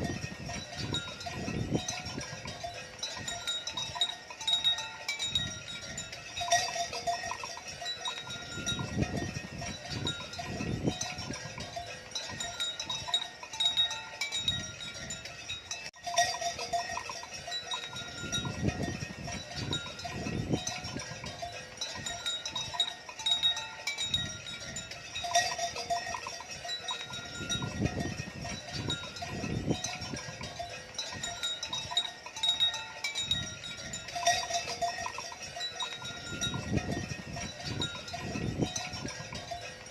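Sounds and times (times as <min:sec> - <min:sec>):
livestock bells clanking: 0:00.0 - 0:39.9.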